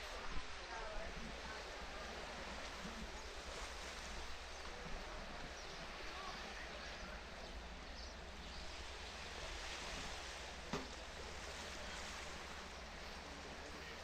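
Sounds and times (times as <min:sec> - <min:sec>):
surf hissing: 0:00.0 - 0:14.0
wind: 0:00.0 - 0:14.0.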